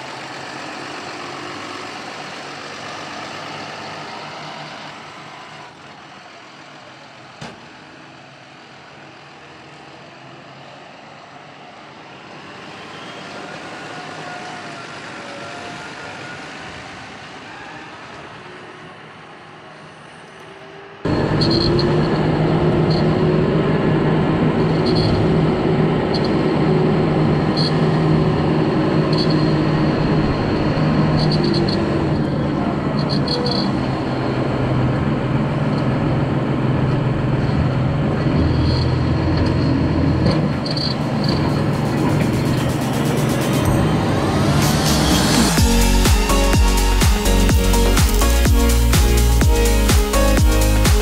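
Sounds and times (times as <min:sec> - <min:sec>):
tractor engine droning: 0:00.0 - 0:51.0.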